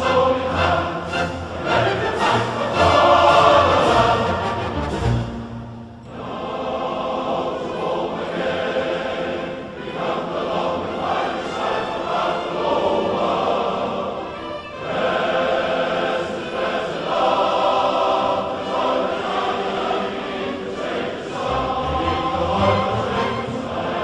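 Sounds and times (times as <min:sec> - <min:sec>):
male choir singing: 0:00.0 - 0:05.3, 0:06.1 - 0:24.0.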